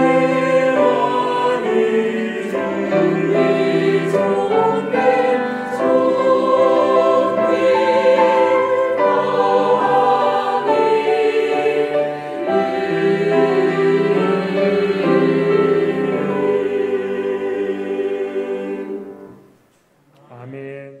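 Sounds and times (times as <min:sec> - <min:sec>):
choir singing a hymn: 0:00.0 - 0:19.6.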